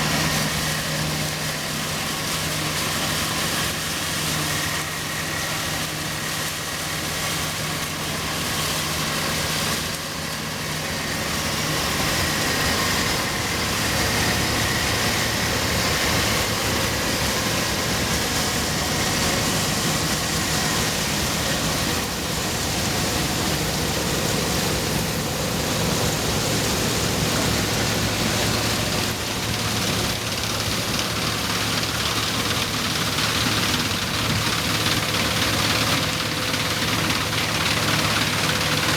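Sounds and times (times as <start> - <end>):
combine harvester threshing: 0.0 - 38.9.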